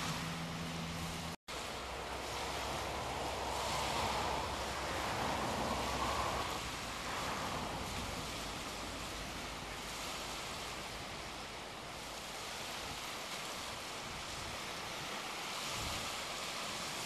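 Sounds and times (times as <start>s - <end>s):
waves washing over pebbles: 0.0s - 17.0s.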